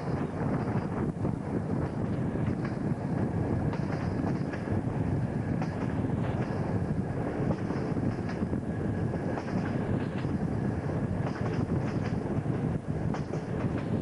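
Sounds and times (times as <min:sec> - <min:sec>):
train wheels rumbling on rails: 0:00.0 - 0:14.0
wind on the microphone: 0:00.0 - 0:14.0.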